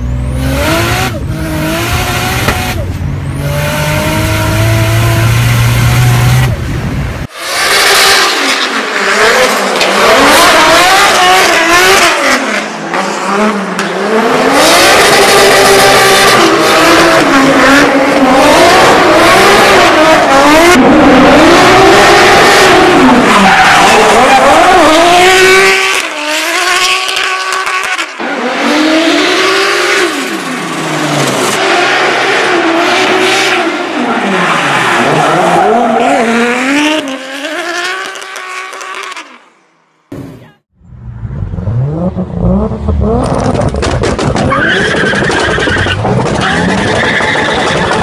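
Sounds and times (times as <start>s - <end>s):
car engine revving: 0.0s - 34.0s, 40.1s - 48.0s
tires screeching on concrete: 7.2s - 39.6s, 41.0s - 48.0s.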